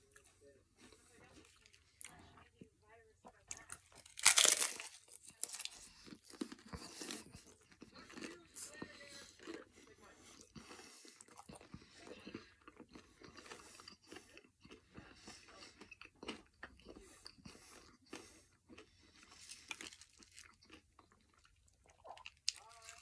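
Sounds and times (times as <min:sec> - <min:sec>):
person chewing crunchy taco shell: 0:03.5 - 0:23.0.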